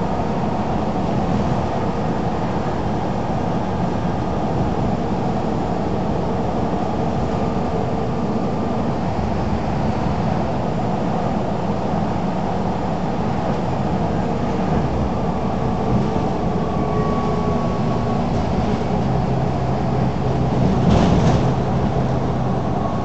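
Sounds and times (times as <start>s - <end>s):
bus engine at speed: 0.0s - 23.0s
road noise: 0.0s - 23.0s.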